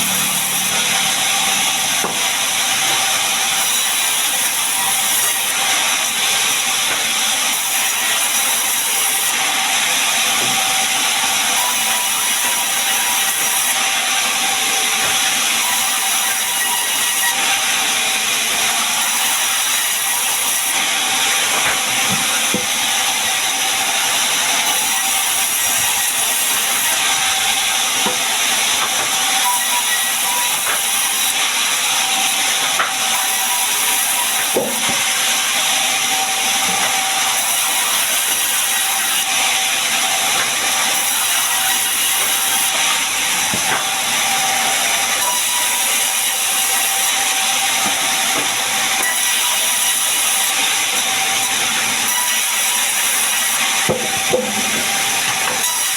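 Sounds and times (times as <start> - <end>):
sawmill saw cutting timber: 0.0 - 55.9.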